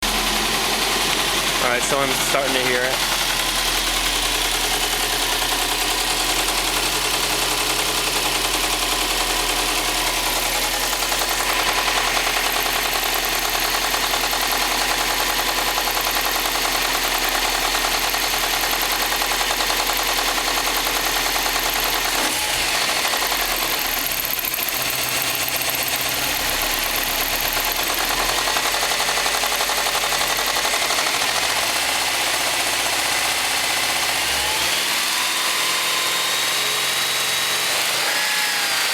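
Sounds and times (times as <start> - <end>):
car engine idling: 0.0 - 34.3
steady engine knocking: 0.0 - 37.5.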